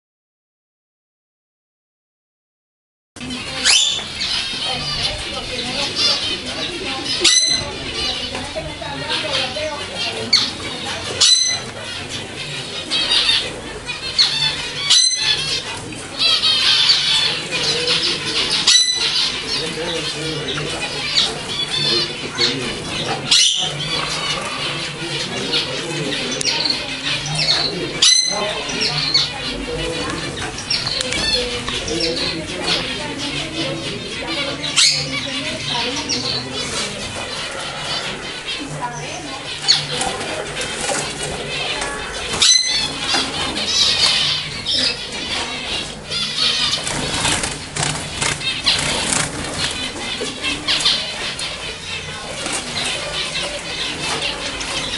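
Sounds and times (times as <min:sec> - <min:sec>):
finches chattering: 0:03.2 - 0:54.9.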